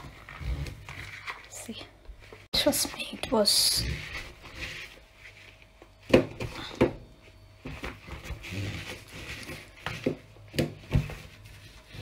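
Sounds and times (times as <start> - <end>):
sponge scrubbing steel hob: 0.0 - 5.7, 8.0 - 12.0.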